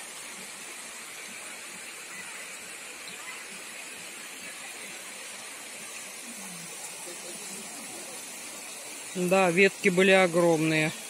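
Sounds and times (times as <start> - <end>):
river running over stones: 0.0 - 11.0.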